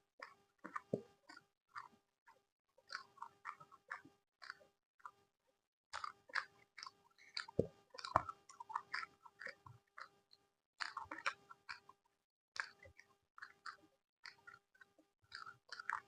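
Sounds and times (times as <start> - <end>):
chewing food with mouth clicks: 0.2 - 5.2, 5.9 - 16.0.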